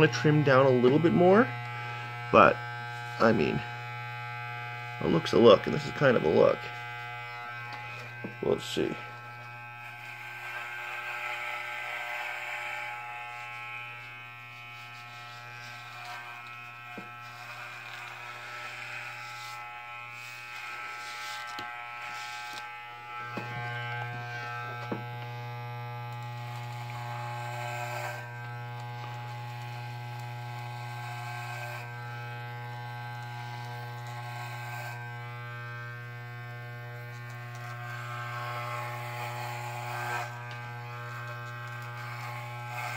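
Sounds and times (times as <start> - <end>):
electric hair clippers buzzing: 0.0 - 42.9.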